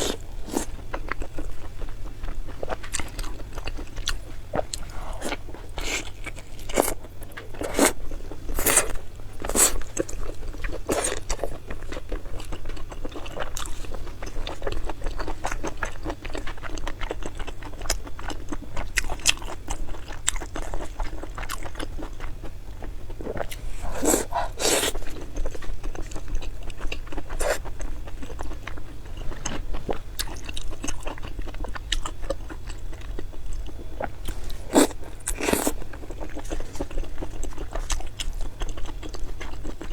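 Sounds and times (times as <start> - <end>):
crunching food: 0.0 - 39.9
person chewing: 0.0 - 39.9.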